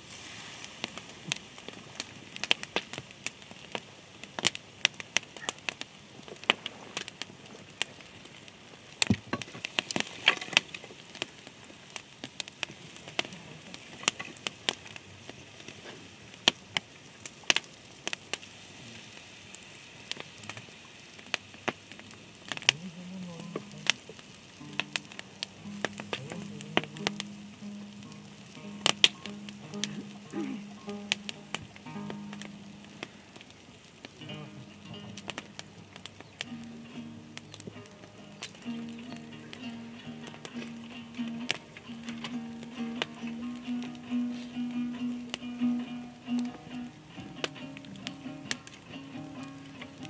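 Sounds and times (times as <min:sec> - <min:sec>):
faint steady hiss: 0:00.0 - 0:50.0
sharp crackles and pops: 0:00.0 - 0:50.0.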